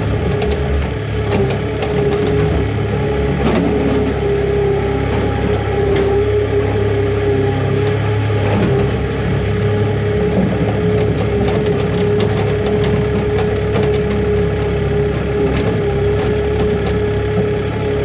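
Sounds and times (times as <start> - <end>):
farm machine engine running: 0.0 - 18.0.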